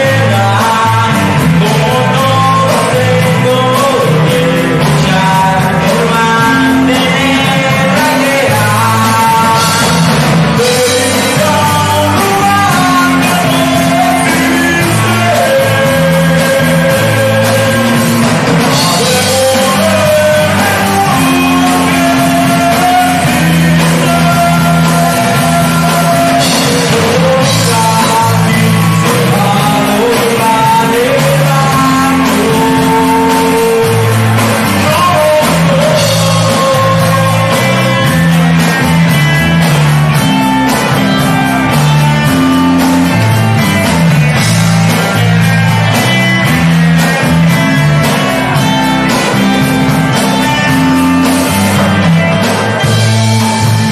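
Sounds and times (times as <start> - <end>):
electric bass: 0.0 - 53.9
live rock band: 0.0 - 53.9.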